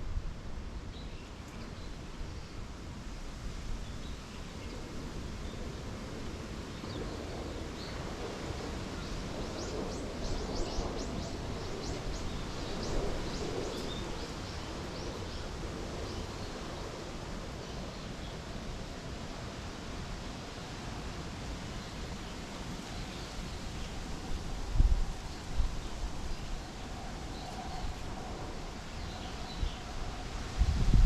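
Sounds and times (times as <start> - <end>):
wind rustling leaves: 0.0 - 31.0.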